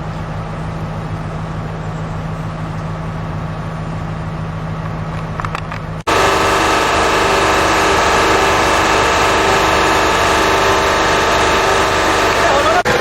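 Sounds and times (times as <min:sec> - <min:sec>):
engine drone: 0:00.0 - 0:13.0
heavy engine humming: 0:00.0 - 0:13.0.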